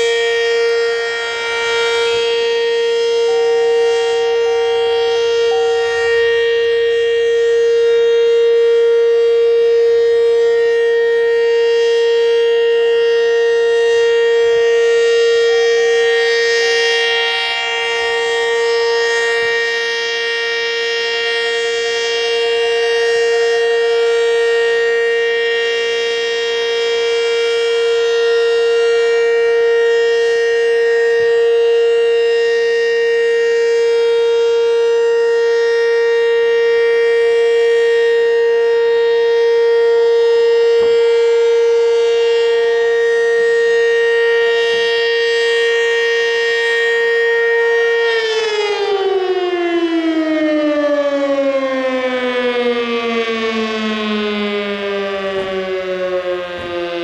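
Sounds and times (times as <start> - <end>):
warning siren steady tone: 0.0 - 57.0.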